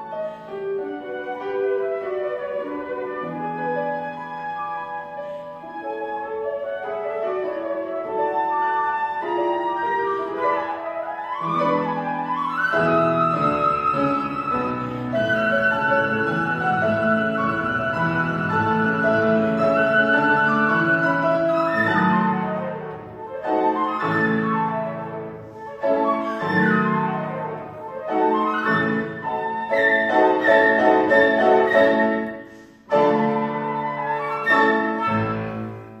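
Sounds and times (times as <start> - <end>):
flute melody: 0.0 - 36.0
piano chords: 0.0 - 36.0.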